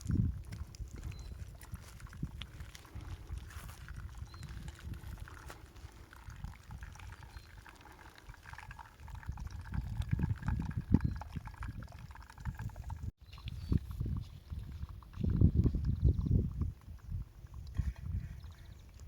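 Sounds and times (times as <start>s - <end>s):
water pouring and bubbling: 0.0s - 19.0s.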